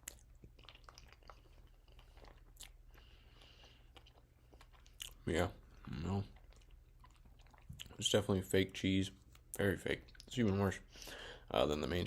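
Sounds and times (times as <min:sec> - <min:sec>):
person chewing food: 0:00.0 - 0:08.4, 0:09.2 - 0:11.5
low steady hum: 0:00.0 - 0:12.0.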